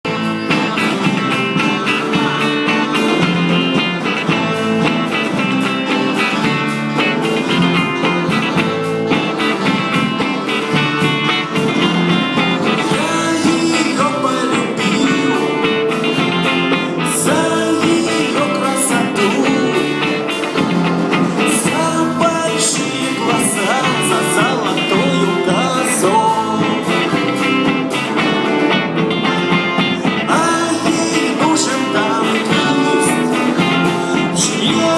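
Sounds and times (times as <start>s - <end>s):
live band with guitar and beat: 0.0s - 34.9s.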